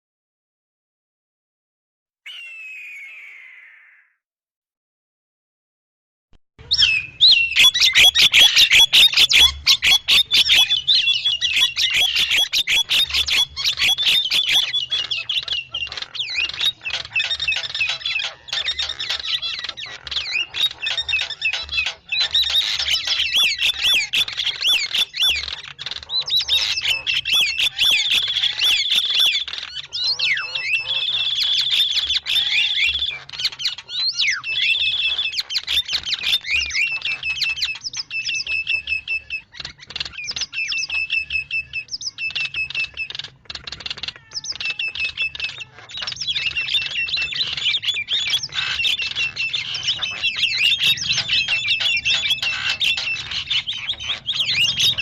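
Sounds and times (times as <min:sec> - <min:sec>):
starlings chattering and whistling: 0:02.3 - 0:04.1, 0:06.6 - 0:55.0.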